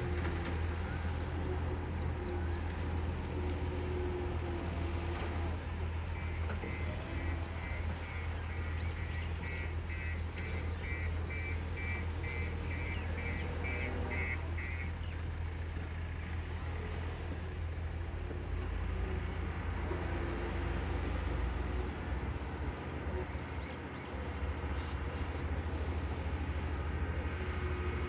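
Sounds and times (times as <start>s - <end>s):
diesel machinery running: 0.0s - 28.0s.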